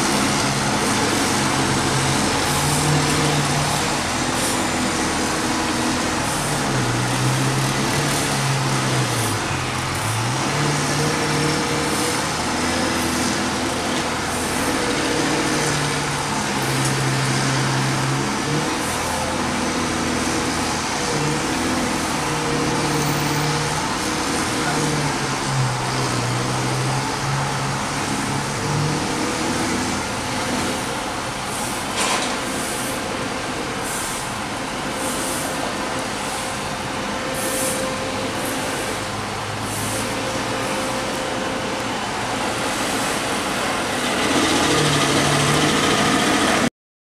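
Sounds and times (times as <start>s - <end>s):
cars driving past: 0.0s - 46.7s
diesel trucks running: 0.0s - 46.7s.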